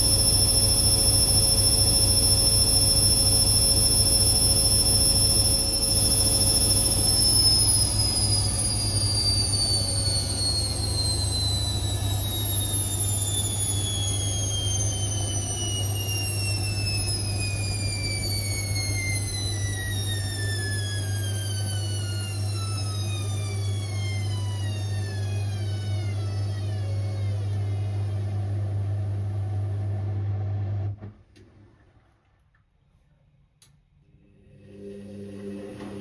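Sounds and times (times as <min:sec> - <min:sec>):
washing machine motor whine: 0:00.0 - 0:31.1, 0:34.1 - 0:36.0.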